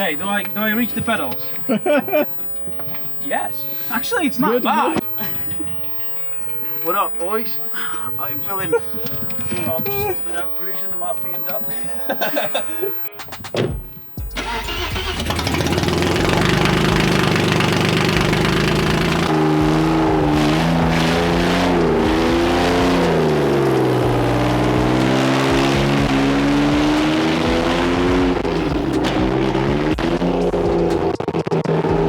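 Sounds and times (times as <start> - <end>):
car engine revving: 0.0 - 11.1, 14.4 - 32.0.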